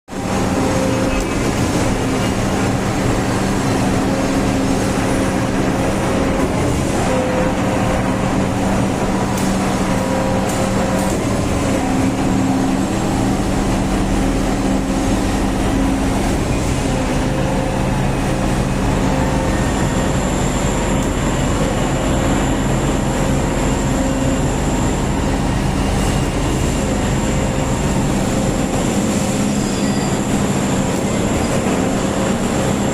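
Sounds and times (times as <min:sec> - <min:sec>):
mechanical drone with low hum: 0:00.1 - 0:32.9
thin high whine: 0:00.2 - 0:32.9.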